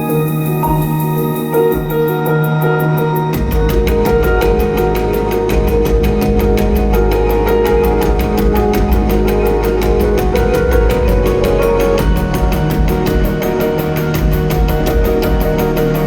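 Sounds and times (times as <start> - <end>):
loud music with heavy bass: 0.0 - 16.0.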